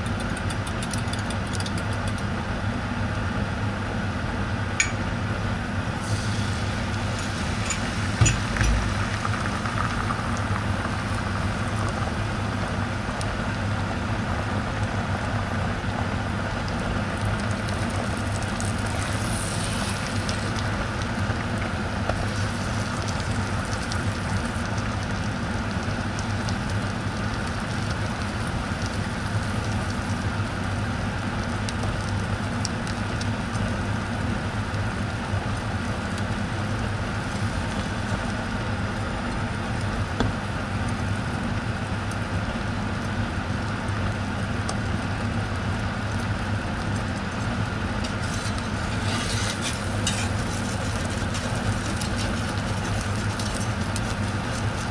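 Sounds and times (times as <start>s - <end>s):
egg sizzling in a frying pan: 0.1s - 54.9s.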